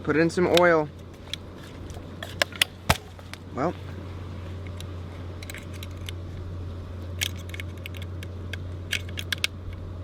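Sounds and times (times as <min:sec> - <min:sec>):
low background rush: 0:00.0 - 0:10.0.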